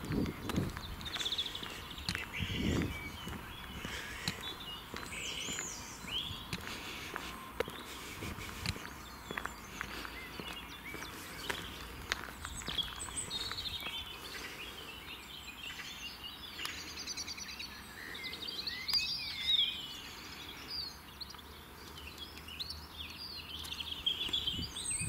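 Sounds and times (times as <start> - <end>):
songbirds singing and chirping: 0.0 - 25.0.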